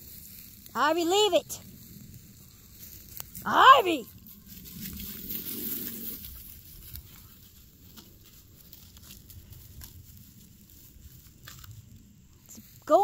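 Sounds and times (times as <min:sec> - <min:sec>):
rustling in dry grass: 0:00.0 - 0:13.0.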